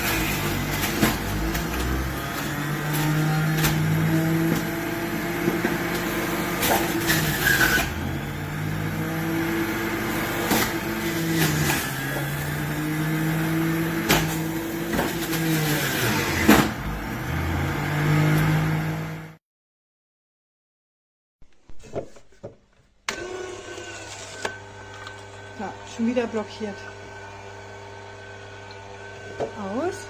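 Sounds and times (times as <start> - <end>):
juicer motor humming: 0.0 - 19.3, 23.1 - 30.0.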